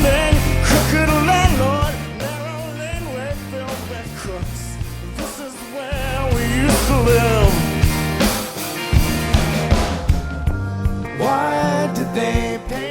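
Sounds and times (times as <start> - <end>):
rock music with guitar and drums: 0.0 - 12.9.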